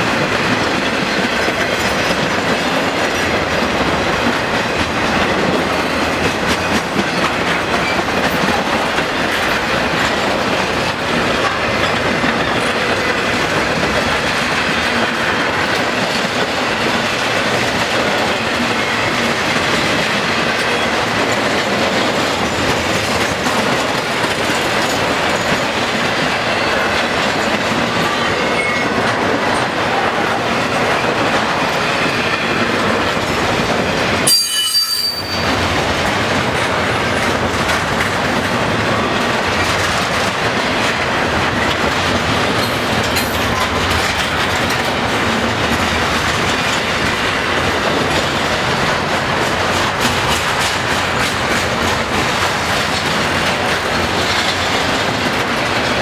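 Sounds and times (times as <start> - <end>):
steel wheels on rail: 0.0 - 56.0.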